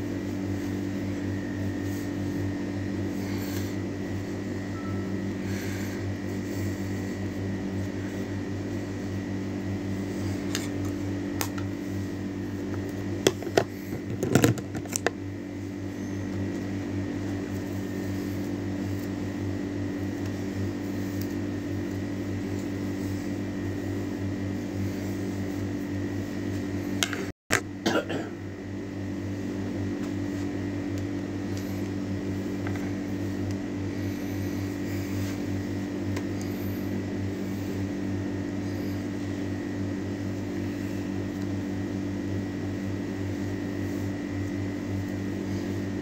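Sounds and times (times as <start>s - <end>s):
appliance motor humming: 0.0s - 27.7s, 28.4s - 46.0s.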